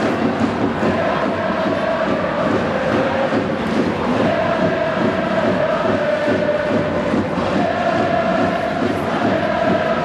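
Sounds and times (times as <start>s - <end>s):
crowd chanting in unison: 0.0s - 10.0s.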